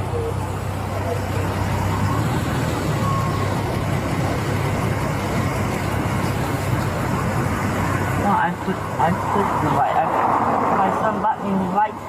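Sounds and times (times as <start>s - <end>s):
vehicle engine idling: 0.0s - 9.9s.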